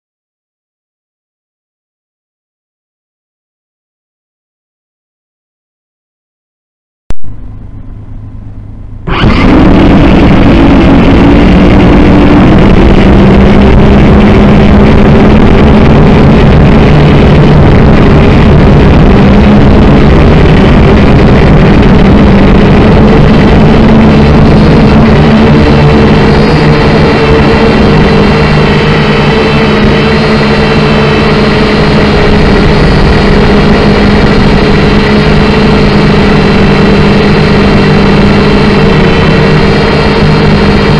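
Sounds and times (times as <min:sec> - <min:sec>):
drone motors whining: 0:07.2 - 0:40.9.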